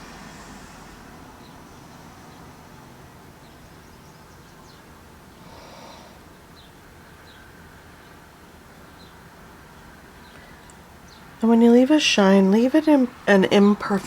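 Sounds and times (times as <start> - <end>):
low outdoor rumble: 0.0 - 14.0
small birds chirping: 0.3 - 12.7.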